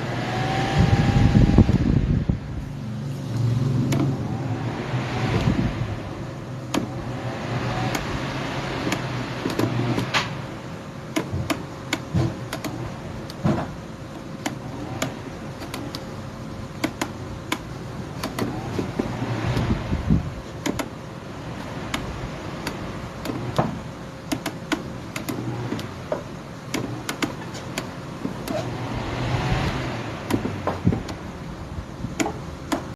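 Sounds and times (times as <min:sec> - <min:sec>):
electric fan humming: 0:00.0 - 0:32.9.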